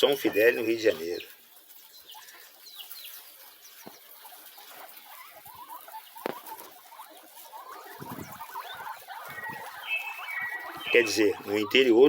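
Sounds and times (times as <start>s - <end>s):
guinea pigs squeaking: 0.0s - 12.0s
rustling: 0.0s - 12.0s.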